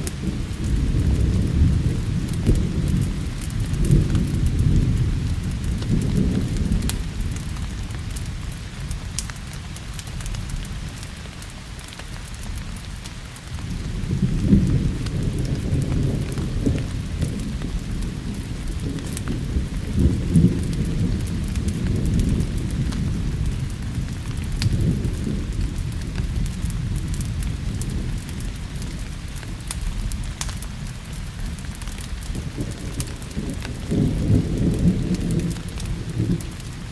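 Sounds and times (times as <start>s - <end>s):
rolling thunder: 0.0s - 8.9s, 13.5s - 30.9s, 31.5s - 36.9s
rain hiss: 0.0s - 36.9s.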